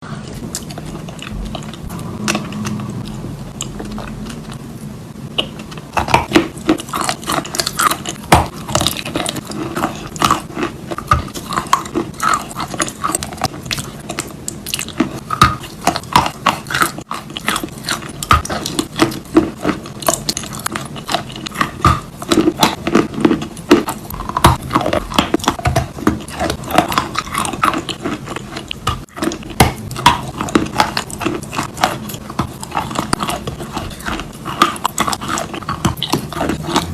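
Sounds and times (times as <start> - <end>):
chalk crunching while chewed: 0.1 - 4.7, 5.3 - 36.9.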